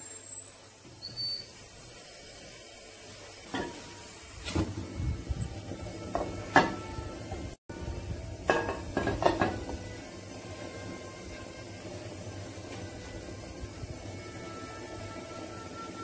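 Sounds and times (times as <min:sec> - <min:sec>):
gas burner rushing: 0:00.0 - 0:16.0.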